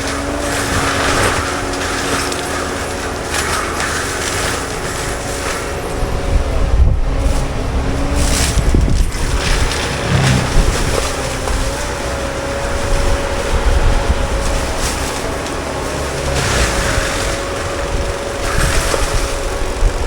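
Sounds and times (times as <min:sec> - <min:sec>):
track loader with mulcher running: 0:00.0 - 0:20.0.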